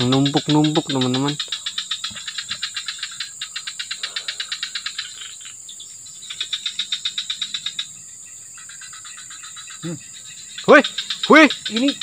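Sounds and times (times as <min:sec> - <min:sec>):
insect pulsing chirp: 0:00.0 - 0:12.0.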